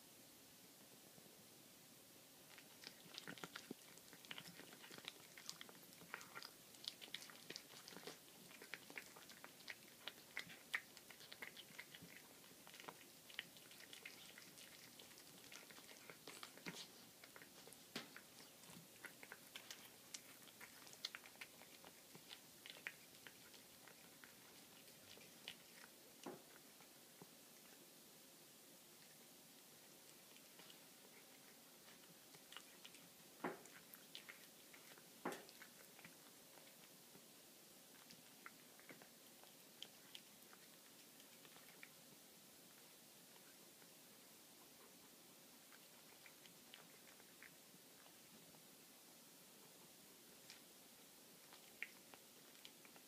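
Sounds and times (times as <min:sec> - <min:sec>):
cat chewing bone: 0:02.4 - 0:27.9, 0:28.9 - 0:53.0.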